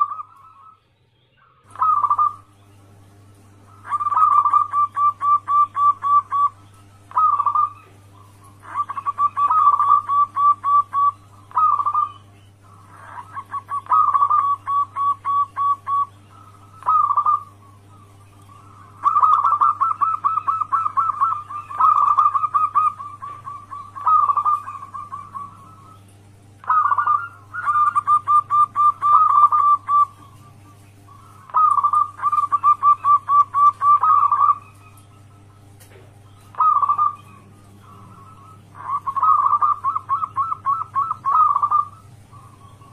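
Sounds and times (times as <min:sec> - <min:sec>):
doves cooing: 0:00.0 - 0:42.9
steady low hum: 0:00.0 - 0:42.9.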